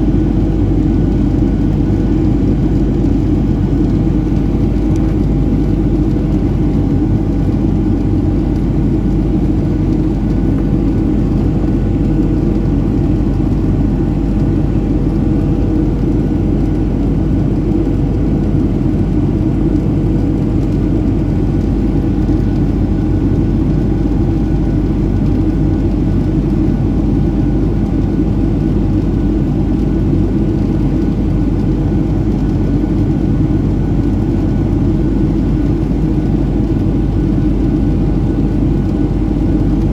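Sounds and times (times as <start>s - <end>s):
airliner cabin rumble: 0.0s - 39.9s
faint hum tones: 0.0s - 39.9s.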